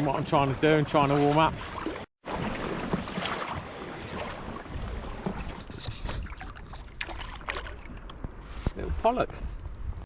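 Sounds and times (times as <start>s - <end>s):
water lapping against hull: 0.0s - 9.7s
wind buffeting microphone: 0.0s - 10.0s.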